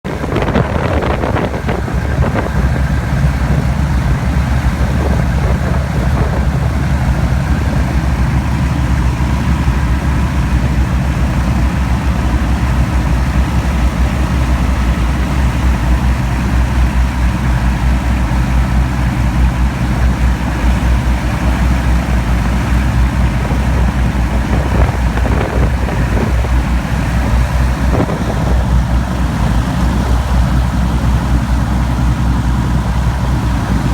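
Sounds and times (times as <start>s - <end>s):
aircraft piston engines droning: 0.1s - 33.9s.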